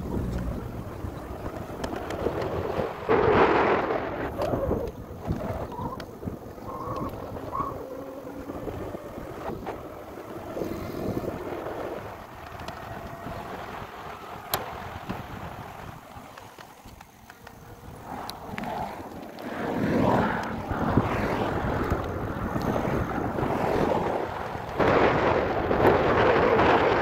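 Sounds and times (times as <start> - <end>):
road noise: 0.0 - 27.0
wind on microphone: 0.0 - 27.0.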